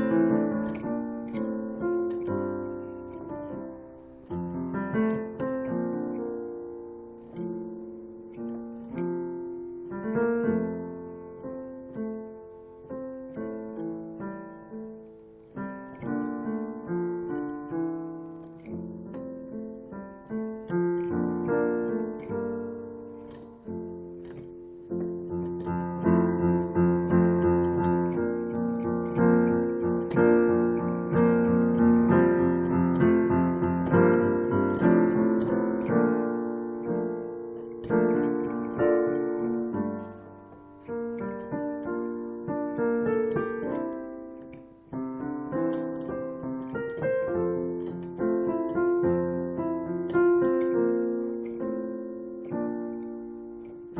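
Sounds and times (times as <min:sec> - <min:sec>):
gentle piano piece: 0:00.0 - 0:53.9.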